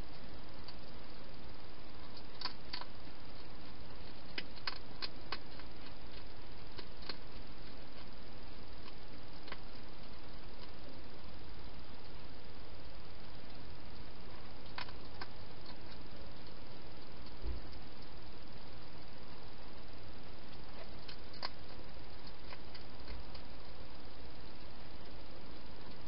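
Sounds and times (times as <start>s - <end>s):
steady hiss: 0.0s - 26.0s
hedgehog eating crunches: 1.9s - 19.1s, 19.8s - 25.2s.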